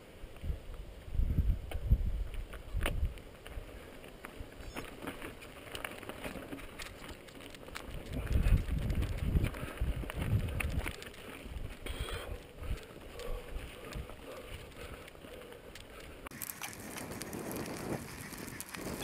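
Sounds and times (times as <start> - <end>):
wind rumbling on microphone: 0.2 - 5.0, 6.3 - 19.0
bike tyres rattling over rock: 2.3 - 19.0.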